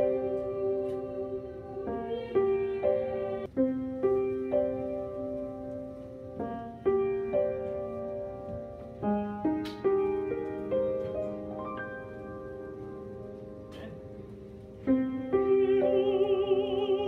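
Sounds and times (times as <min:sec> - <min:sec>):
piano playing sustained chords: 0:00.0 - 0:17.0.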